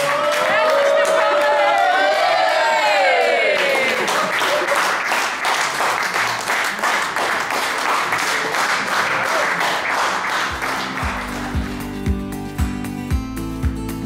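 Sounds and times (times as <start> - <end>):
people cheering: 0.0 - 11.9
people clapping and applauding: 0.0 - 12.4.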